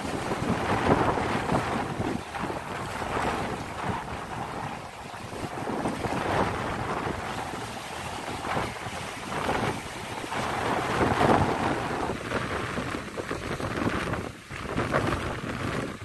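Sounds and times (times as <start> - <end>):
waves washing over rocks: 0.0 - 16.0.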